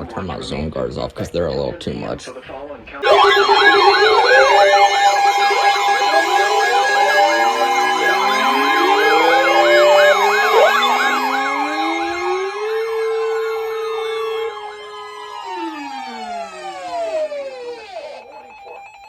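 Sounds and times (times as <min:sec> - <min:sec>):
sirens wailing: 0:03.0 - 0:19.0.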